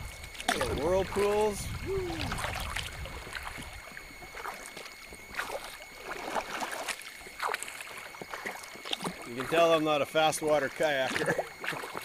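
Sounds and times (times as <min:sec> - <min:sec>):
fast water swirling: 0:00.0 - 0:12.0
paddle strokes splashing: 0:00.0 - 0:12.0.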